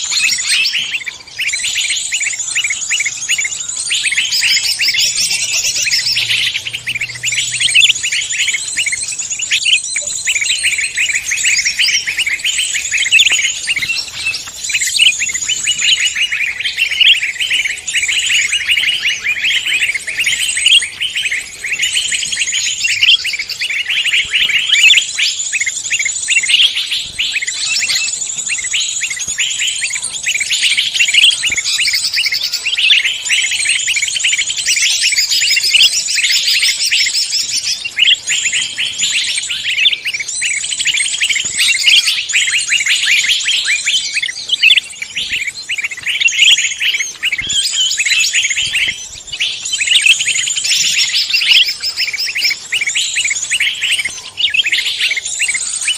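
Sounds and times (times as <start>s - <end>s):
many songbirds singing: 0.0s - 55.9s.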